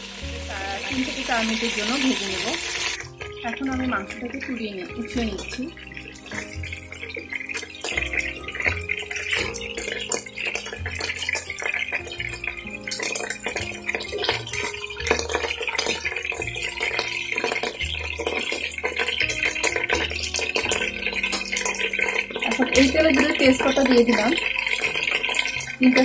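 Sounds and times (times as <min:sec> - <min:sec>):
chicken sizzling in hot oil: 0:00.0 - 0:26.0
low background tune: 0:00.0 - 0:26.0.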